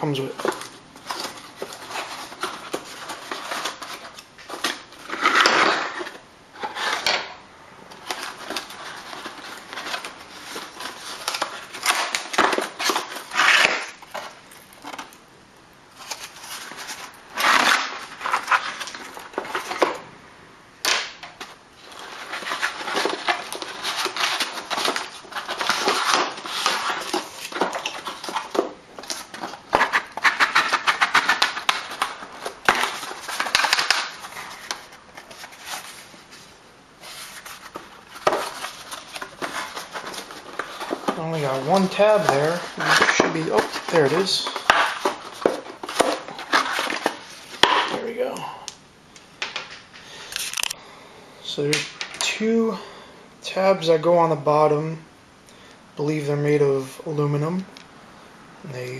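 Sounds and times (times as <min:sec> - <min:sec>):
packaging rustling and crinkling: 0:00.0 - 0:07.3, 0:07.9 - 0:15.2, 0:15.9 - 0:20.0, 0:21.2 - 0:48.4, 0:49.4 - 0:50.8.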